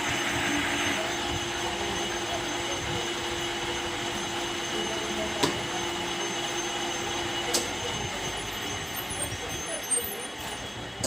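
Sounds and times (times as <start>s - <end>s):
lathe humming and whining: 0.0s - 11.0s.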